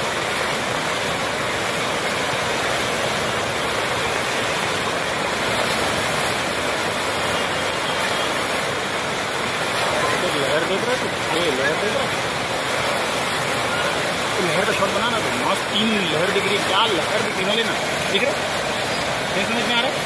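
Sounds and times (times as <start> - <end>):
river rushing over rapids: 0.0 - 20.0.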